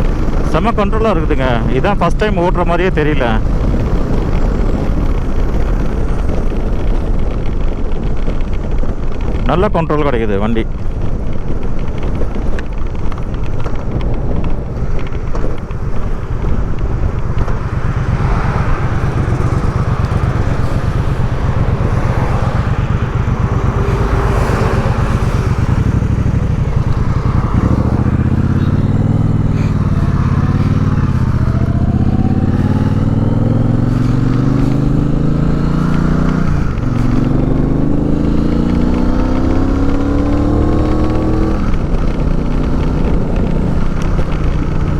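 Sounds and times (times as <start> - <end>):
motorcycle engine accelerating: 0.0 - 44.9
wind noise: 0.0 - 44.9.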